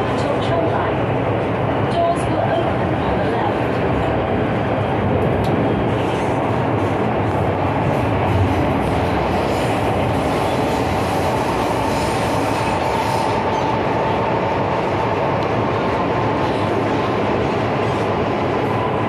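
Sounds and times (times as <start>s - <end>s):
train rumbling and rattling: 0.0s - 19.0s.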